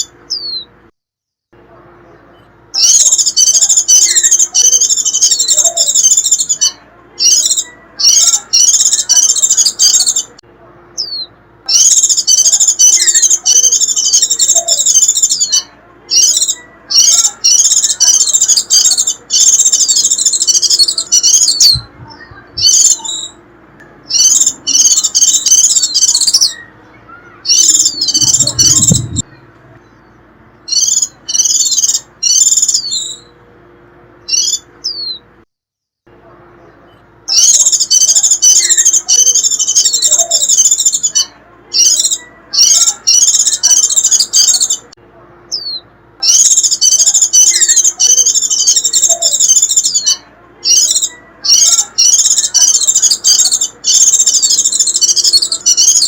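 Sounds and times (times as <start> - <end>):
bird shrill chattering calls: 2.8 - 10.3, 11.0 - 23.4, 24.1 - 29.3, 30.7 - 33.3, 37.3 - 44.8, 45.5 - 56.0.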